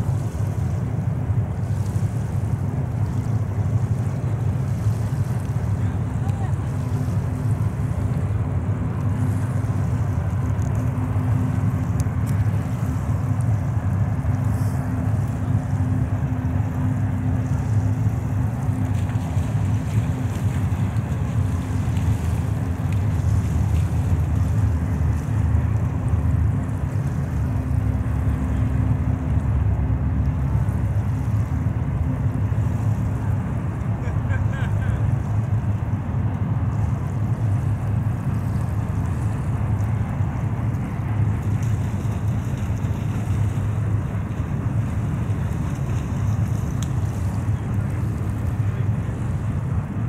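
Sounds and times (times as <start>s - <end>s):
distant locomotive engine drone: 0.0s - 50.0s.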